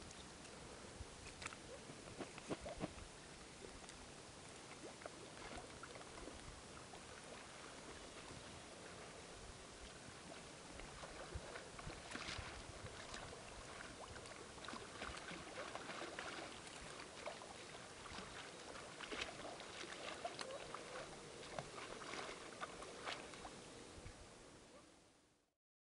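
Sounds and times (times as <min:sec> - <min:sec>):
river water flowing and lapping: 0:00.0 - 0:25.0
small water splashes and trickles: 0:02.6 - 0:24.3.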